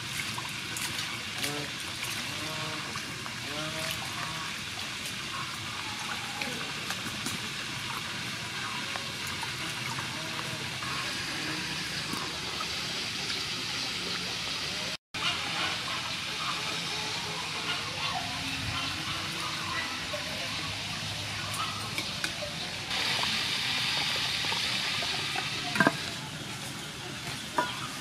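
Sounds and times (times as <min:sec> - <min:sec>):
water sloshing in a steel bowl: 0:00.0 - 0:14.2, 0:17.4 - 0:28.0.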